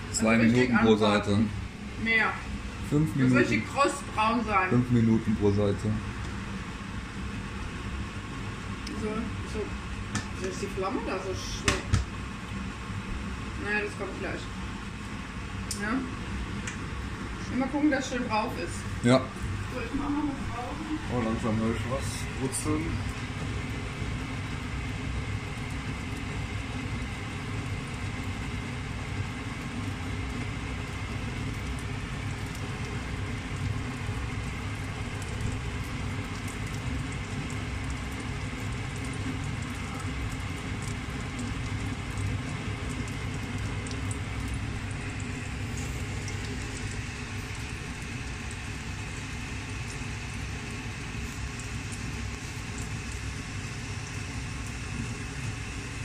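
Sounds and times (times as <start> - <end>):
fish frying in oil: 0.0 - 56.0.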